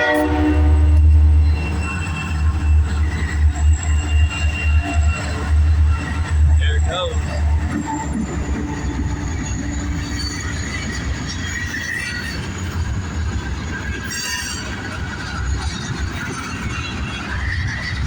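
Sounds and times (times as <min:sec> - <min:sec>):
freight train rumbling by: 0:00.0 - 0:18.0
wheels squealing on rails: 0:00.0 - 0:18.0.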